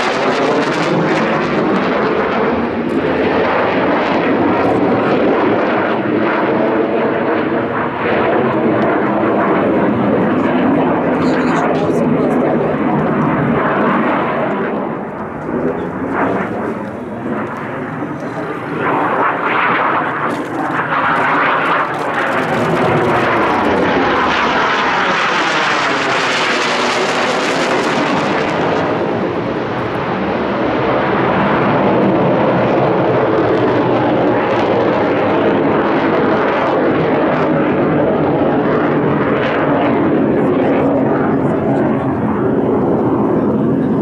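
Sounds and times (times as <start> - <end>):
jet aircraft flying overhead: 0.0 - 44.0.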